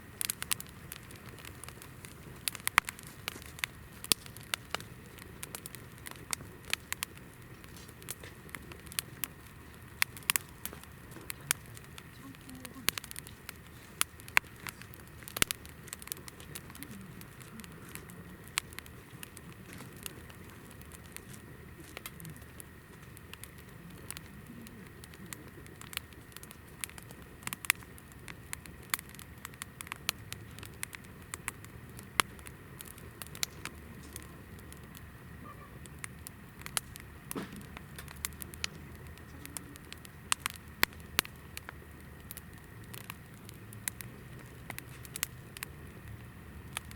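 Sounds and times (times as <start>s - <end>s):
fire hissing: 0.0s - 46.9s
wood fire crackling and popping: 0.0s - 46.9s.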